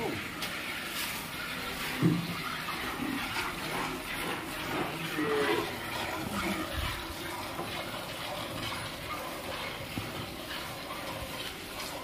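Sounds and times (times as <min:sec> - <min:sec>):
milk squirting into steel pail: 0:00.1 - 0:12.0.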